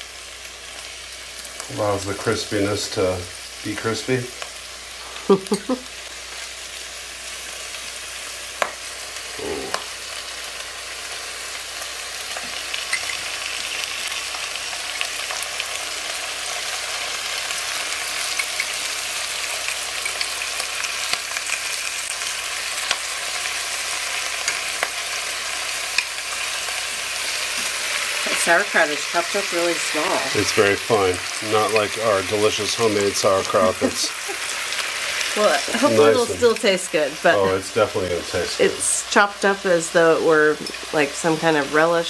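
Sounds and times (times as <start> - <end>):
food sizzling in a pot: 0.0 - 42.0.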